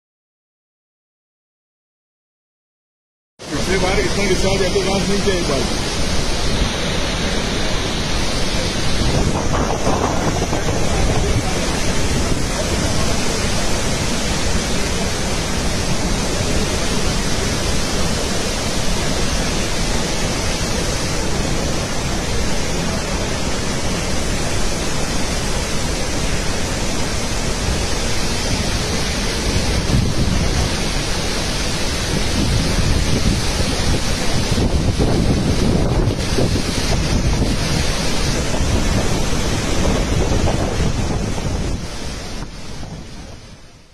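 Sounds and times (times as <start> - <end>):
water rushing through spillway: 3.4 - 43.9.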